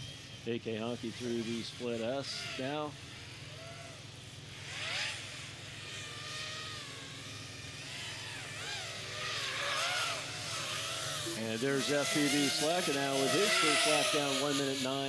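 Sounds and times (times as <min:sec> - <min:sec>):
quadcopter motors whining: 0:00.0 - 0:15.0
steady low hum: 0:00.0 - 0:15.0.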